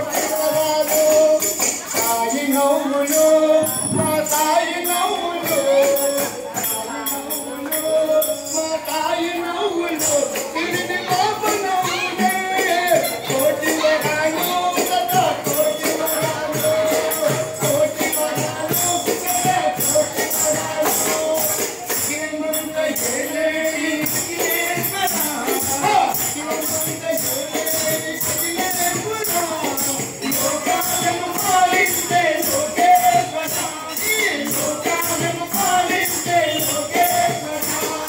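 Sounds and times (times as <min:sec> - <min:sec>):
jingling percussion beat: 0:00.0 - 0:38.0.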